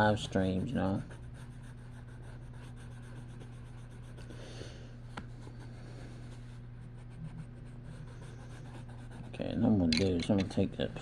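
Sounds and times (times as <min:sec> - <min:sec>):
colouring strokes on paper: 0:00.0 - 0:04.5, 0:05.3 - 0:09.7
low electrical hum: 0:00.0 - 0:11.0.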